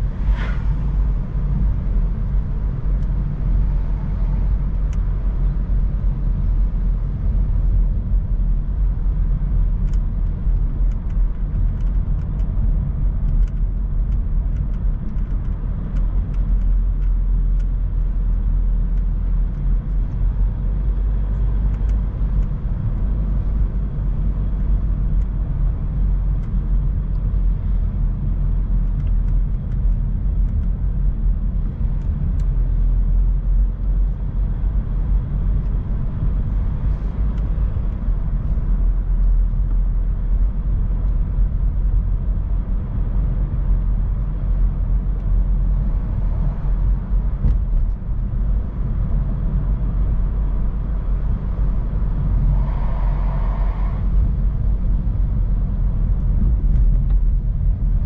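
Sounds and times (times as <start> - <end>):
car road rumble: 0.0 - 58.0.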